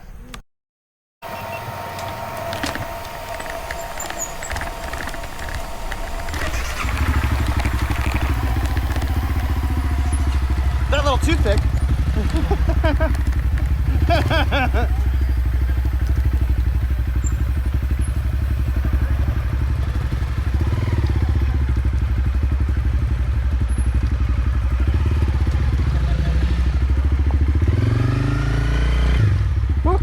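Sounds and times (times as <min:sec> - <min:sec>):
motorcycle engine running: 0:01.2 - 0:30.0.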